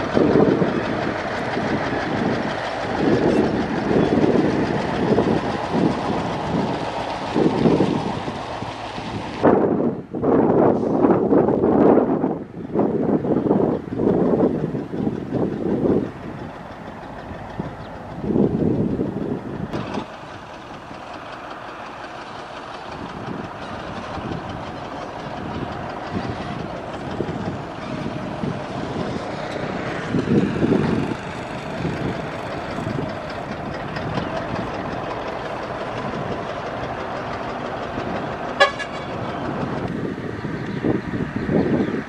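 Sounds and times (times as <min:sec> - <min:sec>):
diesel engines running: 0:00.0 - 0:42.0.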